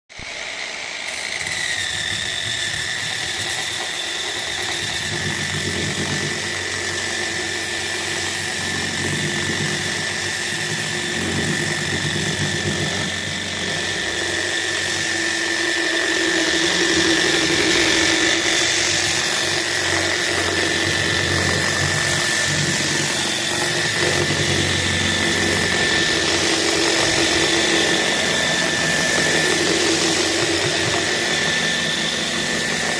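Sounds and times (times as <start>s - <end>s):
electric motor whining: 0.1s - 32.9s.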